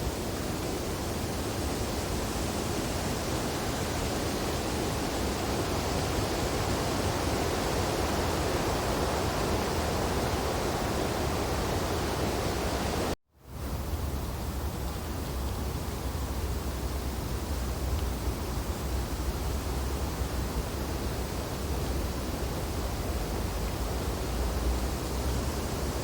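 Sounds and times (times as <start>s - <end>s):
wind rushing through branches: 0.0s - 26.0s.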